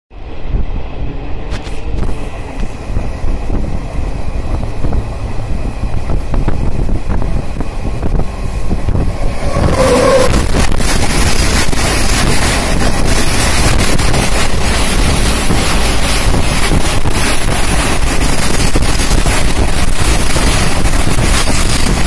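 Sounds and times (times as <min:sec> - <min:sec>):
train rumbling: 0:00.1 - 0:22.0
wind buffeting microphone: 0:00.1 - 0:22.0.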